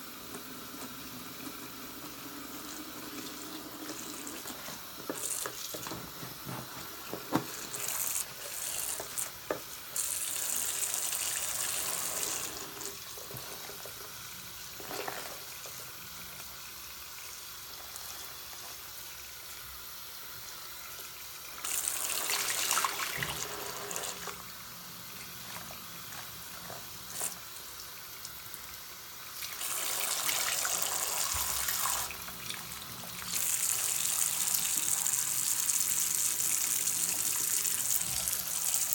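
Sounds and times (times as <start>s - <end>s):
faucet running into sink: 0.0s - 38.9s.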